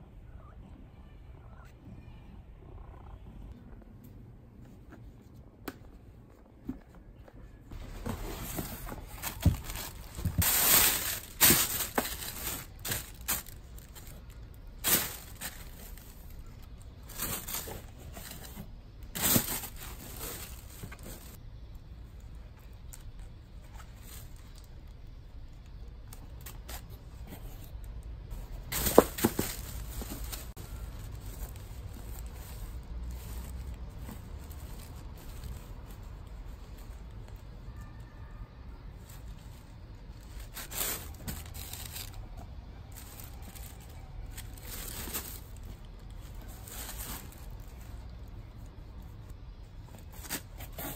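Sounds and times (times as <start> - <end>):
rustling and crinkling: 2.7 - 50.9.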